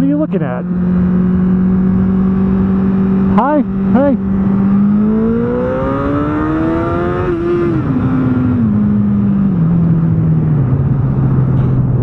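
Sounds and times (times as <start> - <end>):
motorcycle engine decelerating: 0.0 - 12.0.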